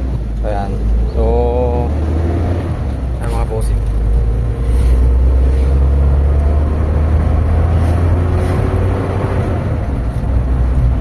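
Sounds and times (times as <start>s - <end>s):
road noise: 0.0s - 11.0s
van engine running: 0.0s - 11.0s.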